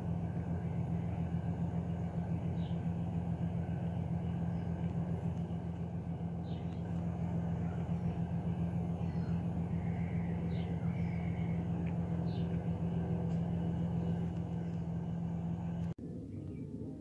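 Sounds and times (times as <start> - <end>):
constant hum: 0.0 - 17.0
distant engines rumbling: 0.0 - 17.0
faint high chirps: 1.0 - 15.8.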